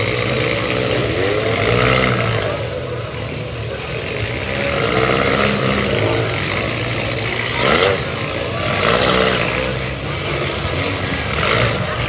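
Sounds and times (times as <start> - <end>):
car engines running and revving: 0.0 - 12.0.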